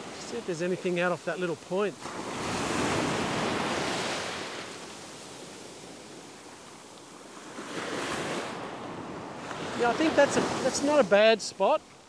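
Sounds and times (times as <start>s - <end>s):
surf washing on sandy beach: 0.0s - 12.0s.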